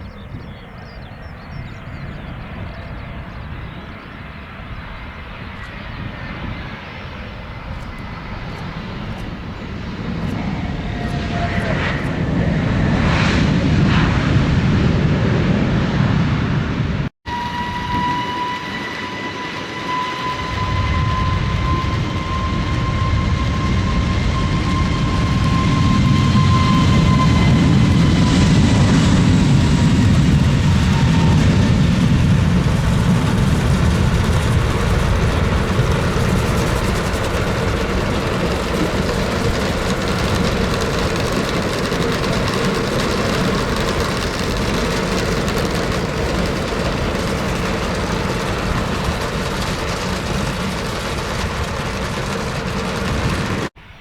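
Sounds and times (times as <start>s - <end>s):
jet aircraft engines passing: 0.0s - 54.0s.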